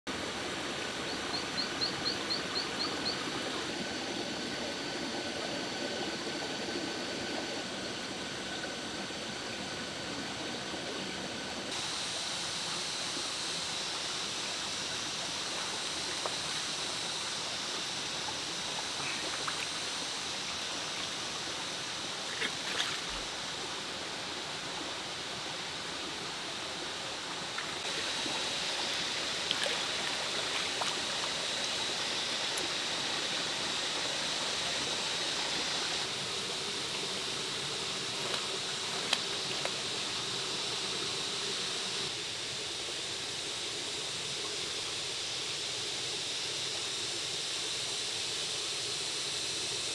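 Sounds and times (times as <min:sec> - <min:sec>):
stream running: 0:00.1 - 0:49.9.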